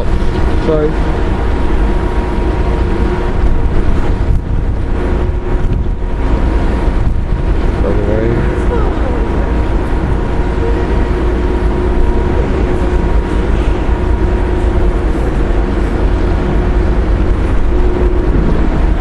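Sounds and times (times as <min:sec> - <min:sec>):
machinery hum: 0:00.0 - 0:19.0
ship engines droning: 0:00.0 - 0:19.0
wind buffeting microphone: 0:00.0 - 0:19.0.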